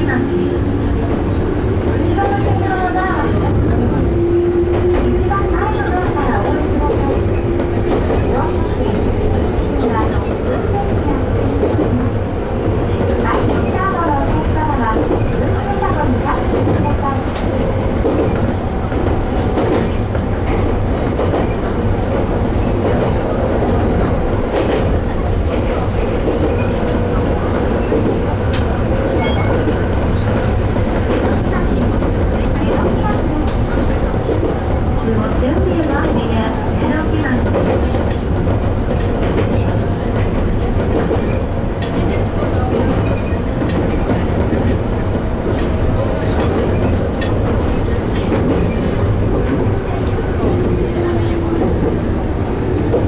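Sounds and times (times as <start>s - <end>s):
train wheels rumbling: 0.0s - 53.0s.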